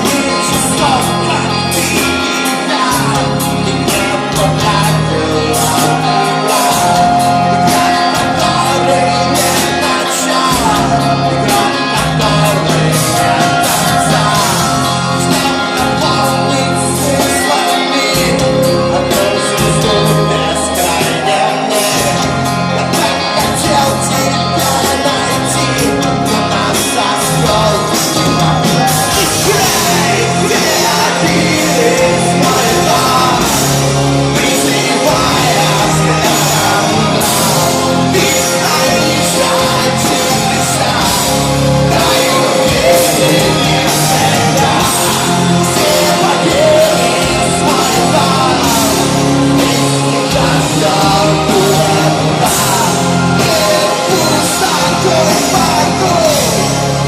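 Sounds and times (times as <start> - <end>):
loud rock music with singer: 0.0 - 57.0.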